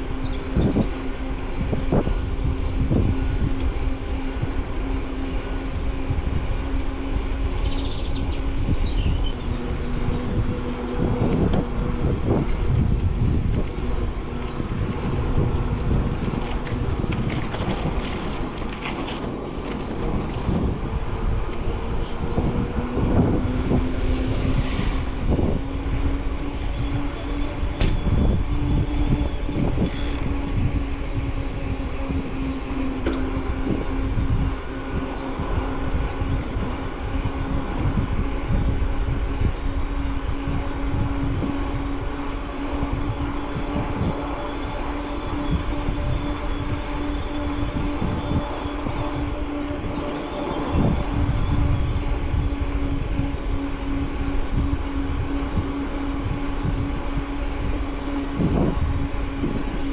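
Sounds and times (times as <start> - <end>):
steady low hum: 0.0 - 59.9
wind buffeting microphone: 0.0 - 59.9.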